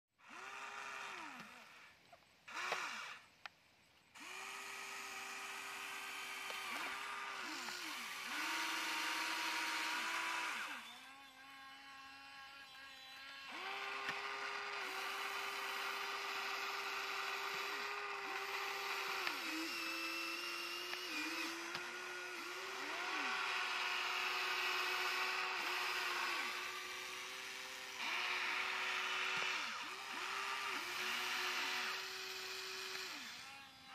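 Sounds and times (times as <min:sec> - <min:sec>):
electric motors whining: 0:00.2 - 0:03.4, 0:04.2 - 0:33.9.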